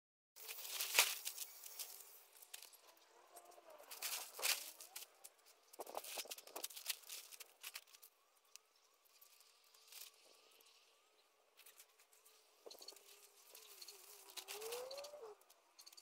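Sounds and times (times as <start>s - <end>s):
faint outdoor ambience: 0.4s - 16.0s.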